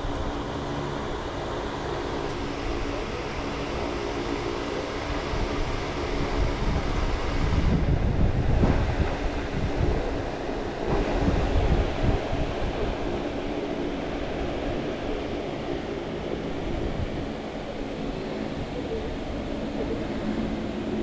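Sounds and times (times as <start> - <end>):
low mechanical hum: 0.0 - 21.0
wind buffeting microphone: 0.0 - 21.0.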